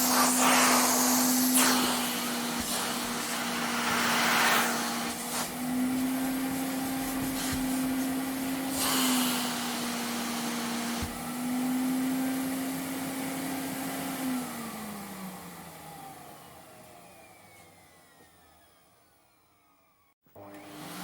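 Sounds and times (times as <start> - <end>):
vacuum cleaner motor: 0.0 - 21.0.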